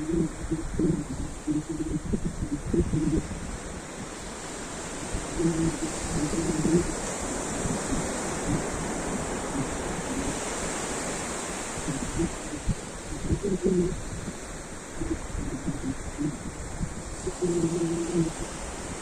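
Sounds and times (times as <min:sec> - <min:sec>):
waves washing onto shore: 0:00.0 - 0:19.0.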